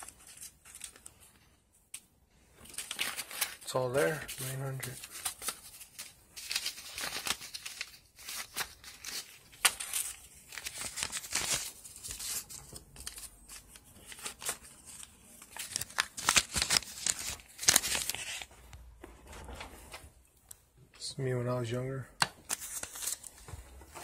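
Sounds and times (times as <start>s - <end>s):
banknotes rustling: 0.0s - 20.1s, 22.4s - 24.0s.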